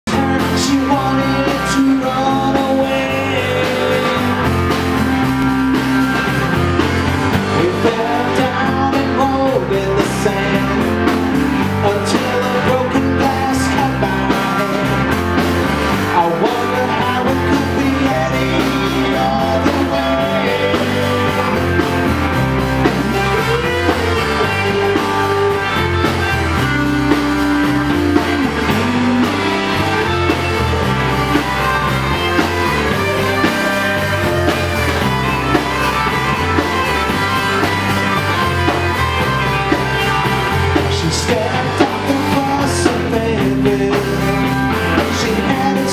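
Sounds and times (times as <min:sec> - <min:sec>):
drum kit: 0:00.0 - 0:45.9
electric guitars playing lead lines: 0:00.0 - 0:45.9.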